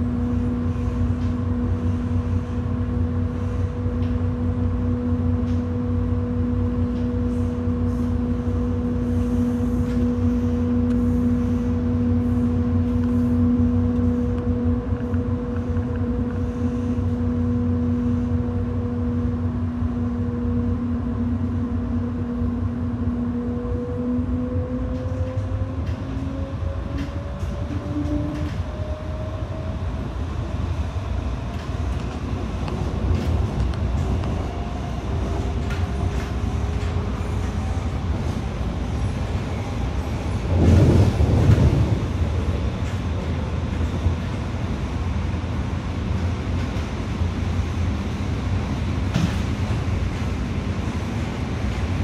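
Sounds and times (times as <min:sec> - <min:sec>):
wheels rumbling on track: 0:00.0 - 0:52.0.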